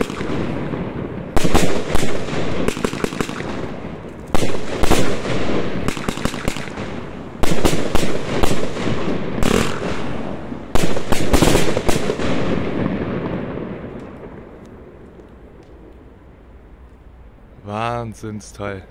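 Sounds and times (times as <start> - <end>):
fireworks bangs: 0.0 - 15.9.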